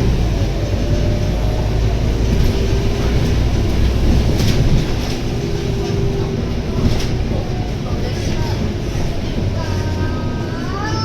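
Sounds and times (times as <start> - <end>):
bus diesel engine rumbling: 0.0 - 11.0
road noise: 0.0 - 11.0.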